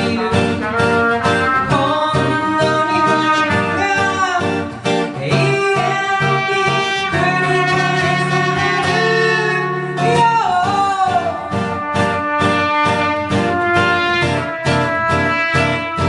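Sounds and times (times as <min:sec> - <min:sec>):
guitar accompaniment: 0:00.0 - 0:16.0
person singing: 0:00.0 - 0:16.0.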